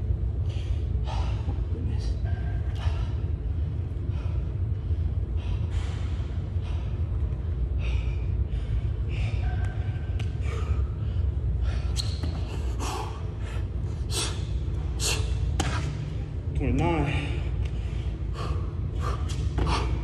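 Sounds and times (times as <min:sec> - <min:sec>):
low room rumble: 0:00.0 - 0:20.0
man breathing hard: 0:00.3 - 0:02.0, 0:02.6 - 0:15.6, 0:17.0 - 0:20.0.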